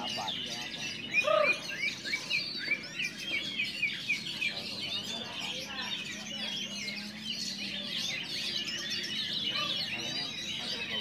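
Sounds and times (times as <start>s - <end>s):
songbirds singing and chirping: 0.0s - 11.0s.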